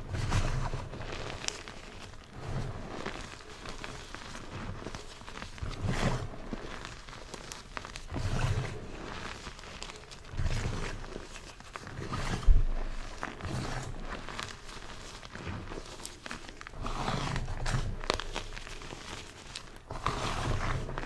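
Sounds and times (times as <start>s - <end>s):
chalk crunching and crumbling: 0.1s - 21.0s.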